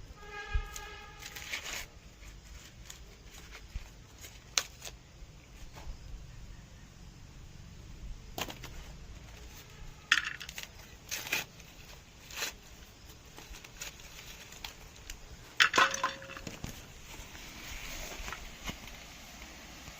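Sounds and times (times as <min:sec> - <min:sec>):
dry leaves rustling: 0:00.7 - 0:05.8, 0:08.4 - 0:19.8.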